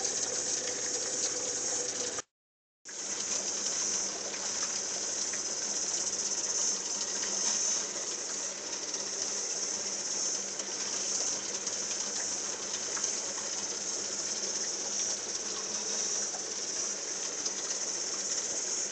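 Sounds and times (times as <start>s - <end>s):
small bubbles ticking: 0.0s - 2.2s, 2.9s - 18.9s
aquarium water hissing: 0.0s - 2.3s, 2.9s - 18.9s.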